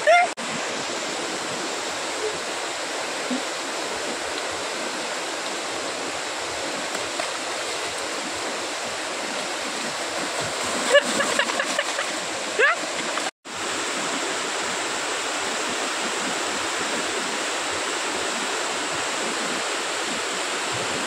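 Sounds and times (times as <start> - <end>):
river rushing over rocks: 0.4 - 21.0.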